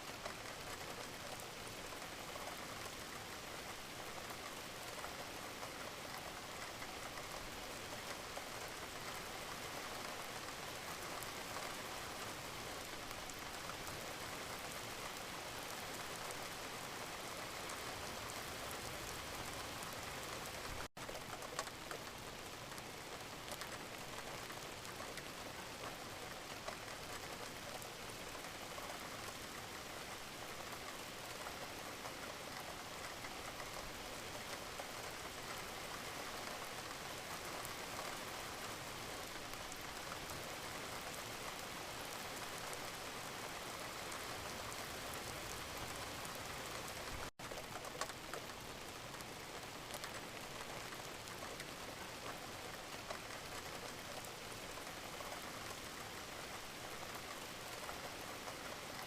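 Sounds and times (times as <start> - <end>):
gentle rain: 0.0 - 59.0.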